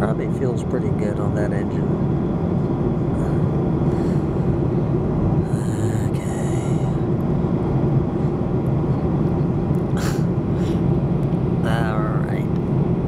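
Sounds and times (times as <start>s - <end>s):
vehicle rumbling in motion: 0.0s - 13.0s.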